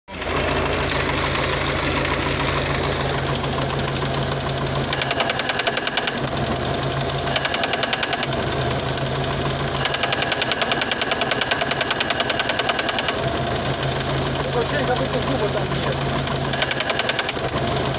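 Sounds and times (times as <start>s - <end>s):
diesel tractor engine running: 0.1s - 17.9s.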